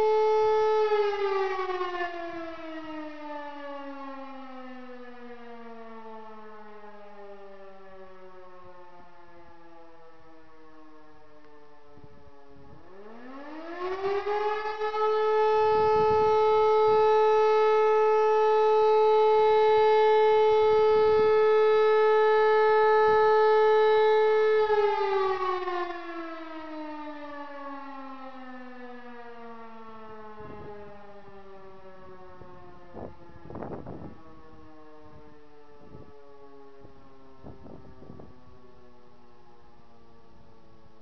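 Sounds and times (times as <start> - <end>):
motor siren wailing: 0.0 - 41.0.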